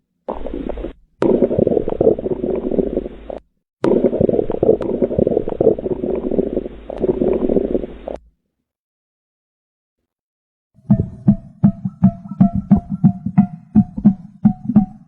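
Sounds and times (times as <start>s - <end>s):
bowel gurgling and rumbling: 0.2s - 8.2s, 10.8s - 15.0s.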